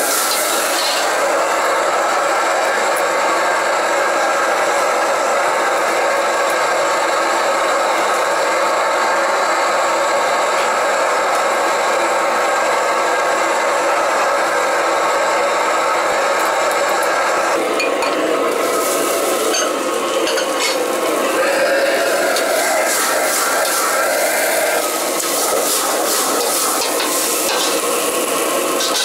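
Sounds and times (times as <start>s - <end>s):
food sizzling in a wok: 0.0s - 29.0s
wok burner roaring: 0.0s - 29.0s.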